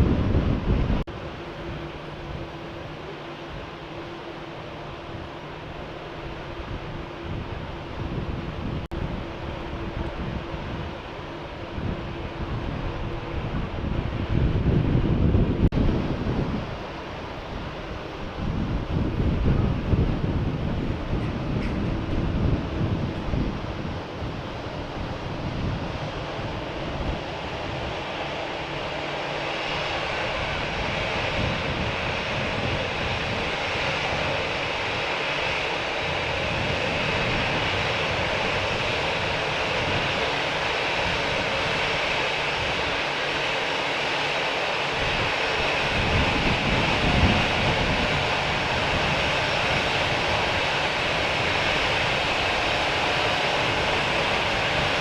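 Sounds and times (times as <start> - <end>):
jet airliner engines hissing: 0.0 - 55.0
wind buffeting microphone: 0.0 - 55.0.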